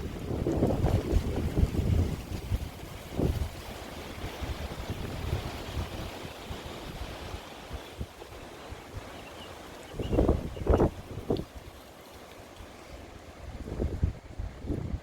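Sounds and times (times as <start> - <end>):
wind buffeting microphone: 0.0 - 9.1, 9.9 - 11.7, 13.4 - 15.0.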